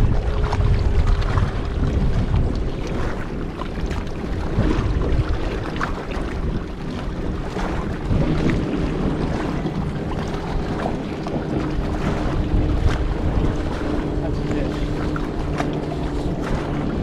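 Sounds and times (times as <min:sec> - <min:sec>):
water lapping against kayak: 0:00.0 - 0:17.0
wind buffeting microphone: 0:00.0 - 0:17.0.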